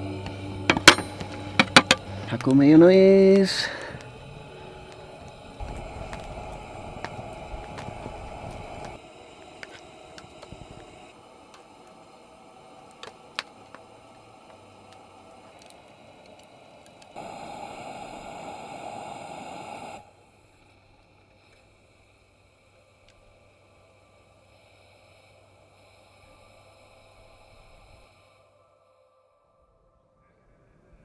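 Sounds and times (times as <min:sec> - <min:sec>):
campfire crackling and hissing: 0:00.0 - 0:28.3.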